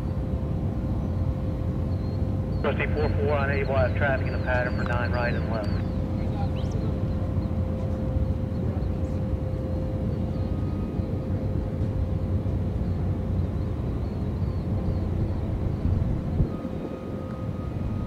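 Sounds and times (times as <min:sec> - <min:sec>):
distant jet engines rumbling: 0:00.0 - 0:18.0
thin steady hum: 0:00.3 - 0:18.0.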